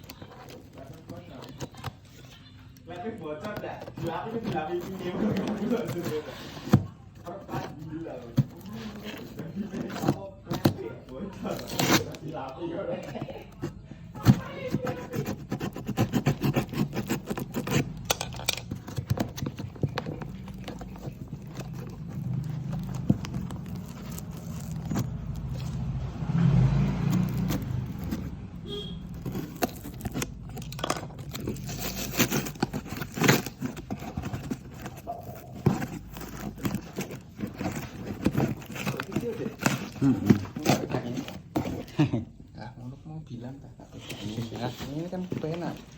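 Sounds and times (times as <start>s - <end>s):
packaging rustling and scraping: 0.0s - 42.6s, 43.3s - 45.9s.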